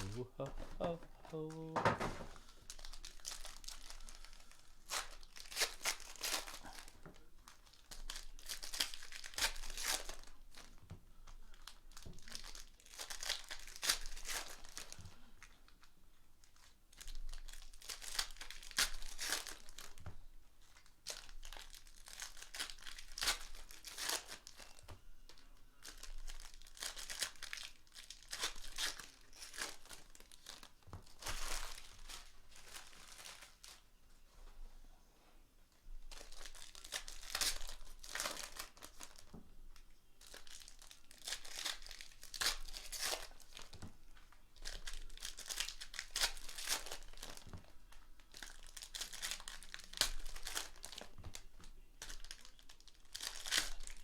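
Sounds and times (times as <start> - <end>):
wrappers crinkling and tearing: 0.0 - 33.9, 36.1 - 54.0.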